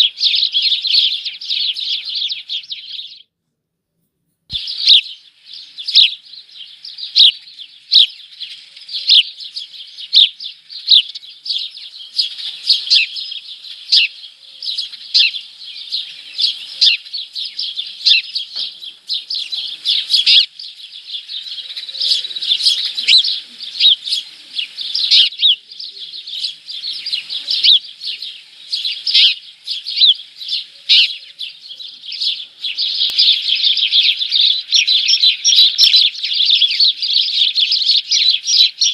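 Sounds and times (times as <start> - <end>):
small birds chirping: 0.0 - 3.4, 4.5 - 38.9.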